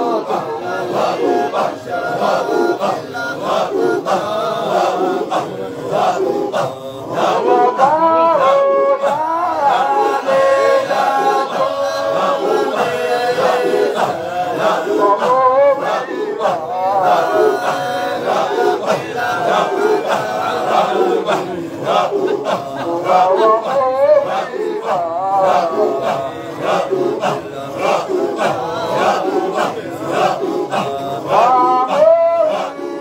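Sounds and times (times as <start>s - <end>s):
men chanting in a group: 0.0s - 33.0s.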